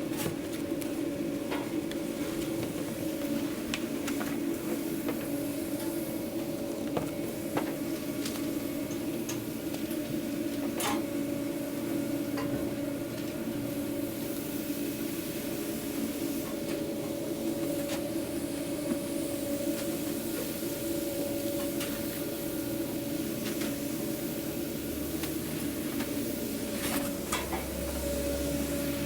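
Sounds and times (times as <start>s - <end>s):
kitchen equipment humming: 0.0s - 29.0s.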